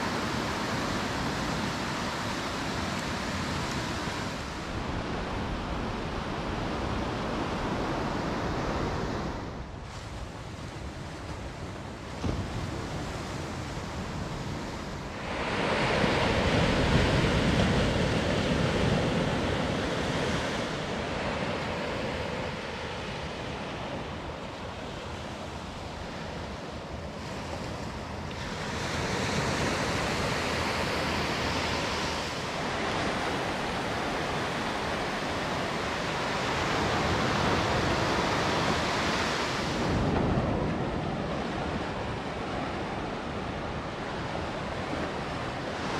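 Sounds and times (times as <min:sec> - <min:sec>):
waves breaking on beach: 0:00.0 - 0:45.9.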